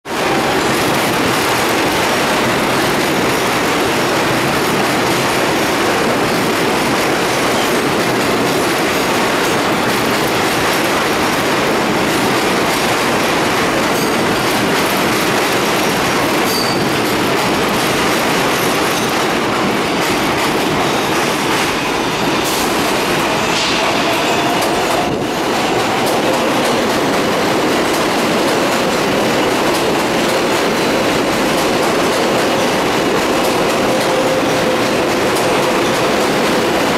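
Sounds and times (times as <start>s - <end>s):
train wheels on rails: 0.0s - 36.9s
clickety-clack of train: 0.1s - 36.9s.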